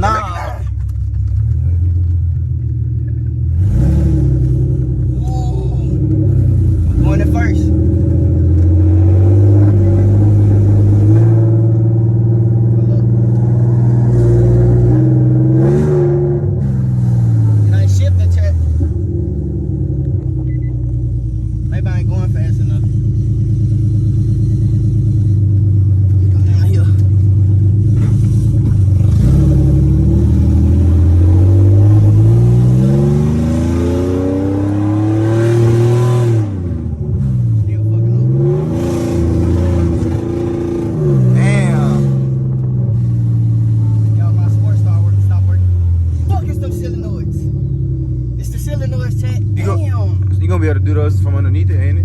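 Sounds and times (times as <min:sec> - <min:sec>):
car engine accelerating hard: 0:00.0 - 0:52.0.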